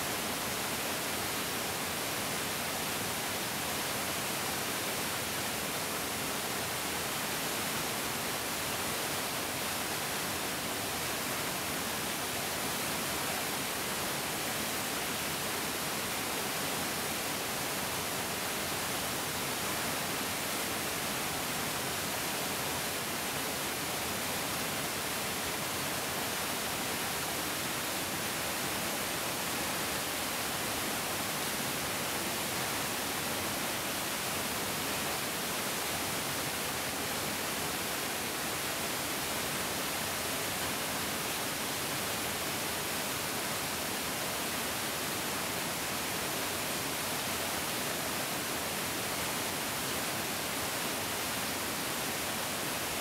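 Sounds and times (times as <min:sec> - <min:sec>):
mountain stream flowing: 0:00.0 - 0:53.0.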